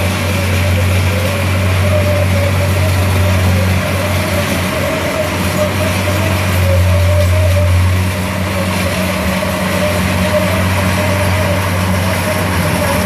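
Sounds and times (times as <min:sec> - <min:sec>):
crawler engine low hum: 0:00.0 - 0:13.0
wavering whine: 0:00.0 - 0:13.0.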